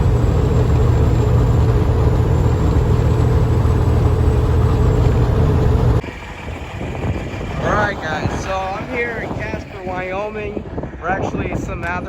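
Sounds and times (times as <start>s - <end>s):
truck diesel engine drone: 0.0s - 10.1s
road and wind noise: 0.0s - 12.0s.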